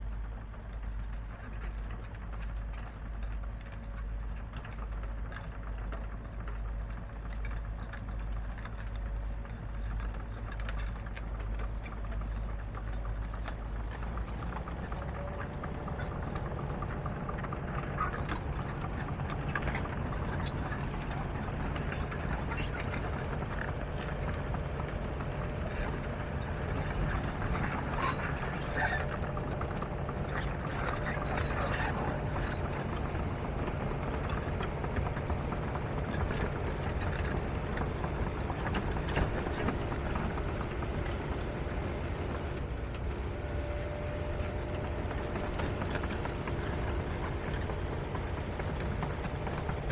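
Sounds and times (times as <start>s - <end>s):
excavator diesel engine running: 0.2s - 49.9s.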